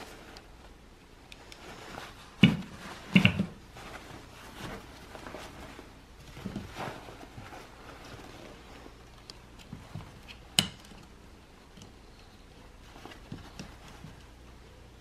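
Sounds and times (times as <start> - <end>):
cloth and mesh rustling: 0.0 - 15.0.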